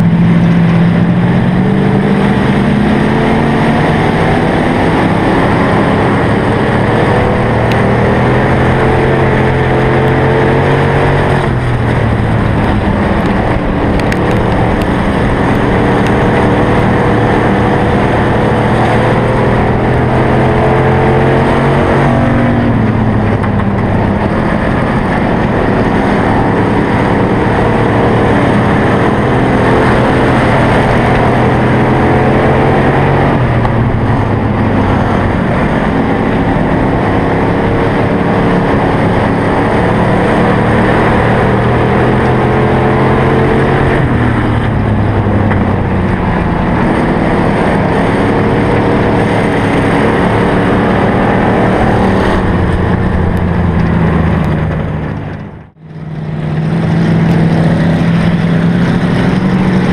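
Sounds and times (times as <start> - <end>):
race car engine at full throttle: 0.0 - 59.9
steady rushing noise: 0.0 - 59.9.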